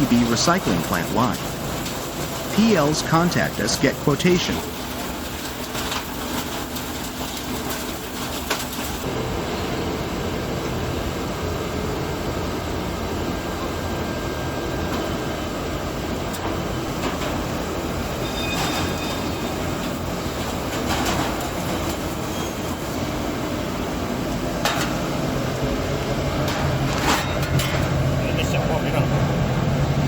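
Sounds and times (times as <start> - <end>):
industrial machinery rumbling: 0.0 - 30.0.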